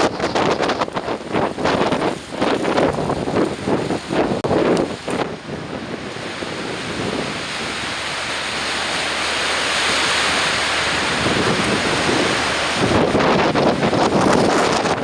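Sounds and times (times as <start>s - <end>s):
storm wind: 0.0s - 15.0s
surf: 0.0s - 15.0s
wind buffeting microphone: 0.0s - 15.0s.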